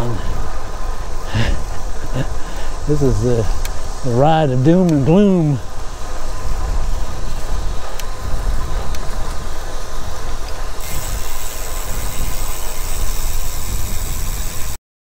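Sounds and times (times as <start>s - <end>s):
bike tyre and road noise: 0.0s - 14.8s
steady high hiss: 0.0s - 14.8s
wind rumble on microphone: 0.0s - 14.8s.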